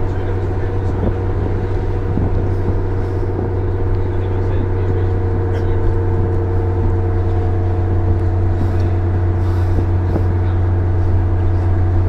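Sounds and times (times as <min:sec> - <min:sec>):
bus engine drone from inside: 0:00.0 - 0:12.0.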